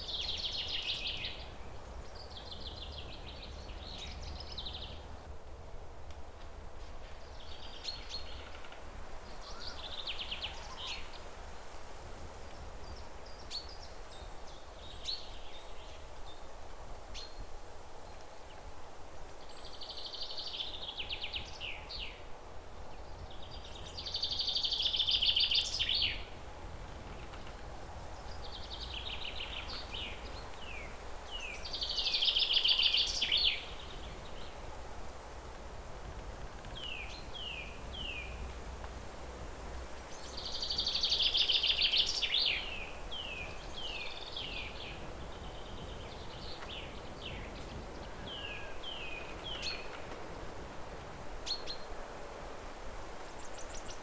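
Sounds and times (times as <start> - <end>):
wild birds singing: 0.0 - 5.3, 7.0 - 11.7, 12.3 - 54.0
low background noise: 0.0 - 54.0.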